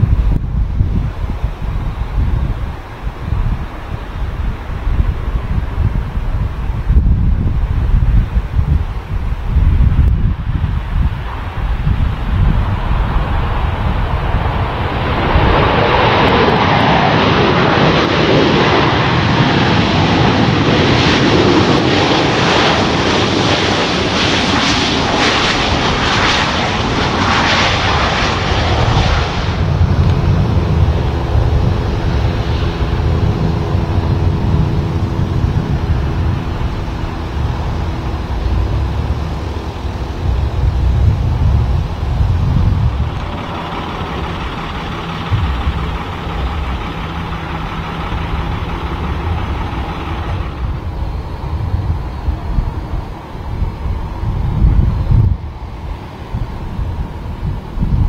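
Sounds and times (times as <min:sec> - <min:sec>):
low rumble with tonal hum: 0:00.0 - 0:20.9, 0:25.0 - 0:58.0
jet engines roaring: 0:00.0 - 0:58.0.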